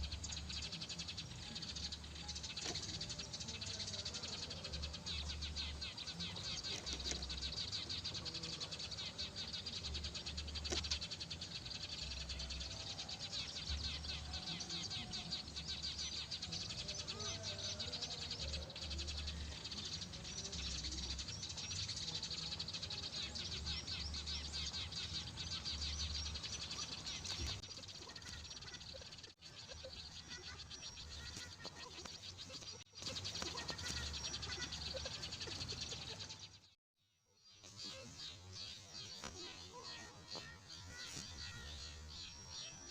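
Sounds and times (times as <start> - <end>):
high-pitched chirping chorus: 0.0 - 36.7.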